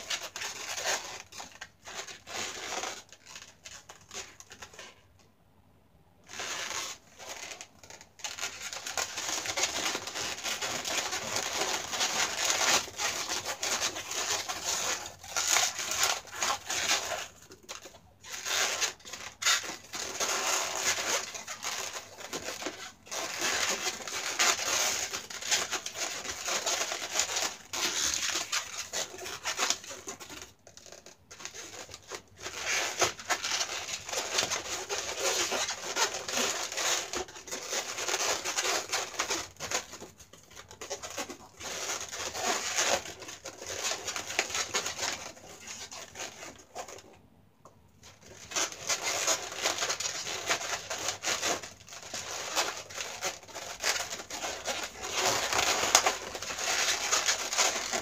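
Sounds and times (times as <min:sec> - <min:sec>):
balloons squeaking and rubbing: 0:00.0 - 0:05.1, 0:06.2 - 0:47.2, 0:48.0 - 0:58.0.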